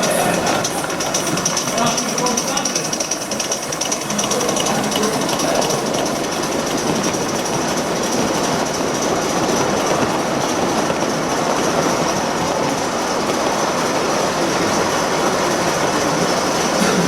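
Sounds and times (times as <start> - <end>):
model train rolling rattle: 0.0 - 17.0.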